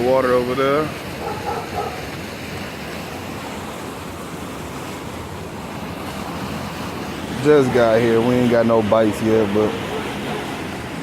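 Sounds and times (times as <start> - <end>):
water rushing over dam: 0.0 - 11.0.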